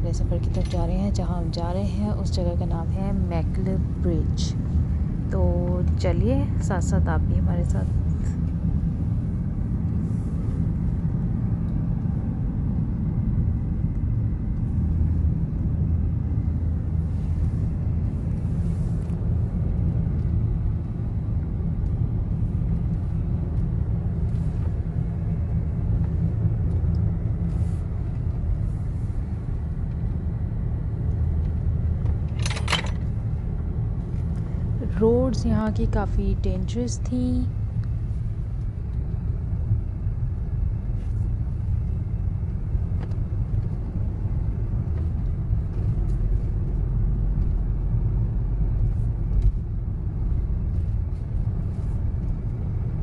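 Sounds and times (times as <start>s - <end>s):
car road and engine rumble: 0.0s - 53.0s.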